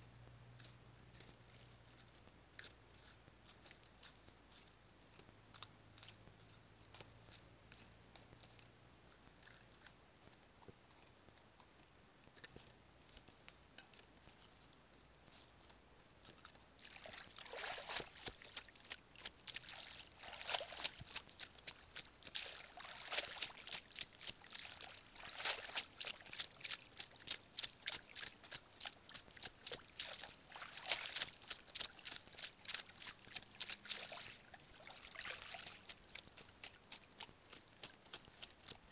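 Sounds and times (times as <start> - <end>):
water sloshing around wading feet: 0.0 - 38.9.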